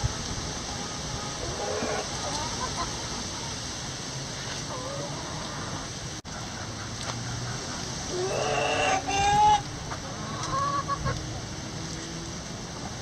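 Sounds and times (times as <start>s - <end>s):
chickens calling: 0.0s - 13.0s
rain hissing: 0.0s - 13.0s.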